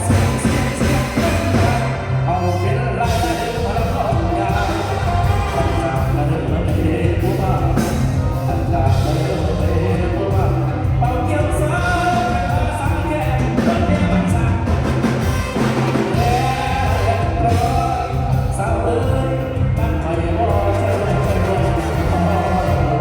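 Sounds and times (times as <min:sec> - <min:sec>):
band music with pulsing bass: 0:00.0 - 0:23.0
person singing: 0:00.0 - 0:23.0.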